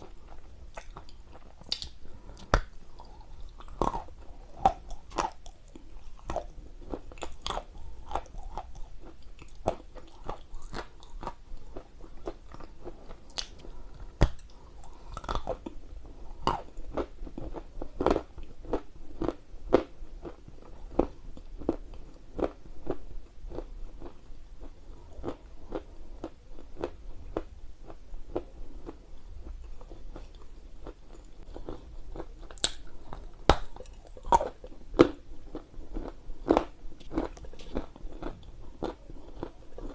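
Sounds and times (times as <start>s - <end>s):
crunchy biting and chewing: 0.0s - 24.1s, 28.3s - 39.9s.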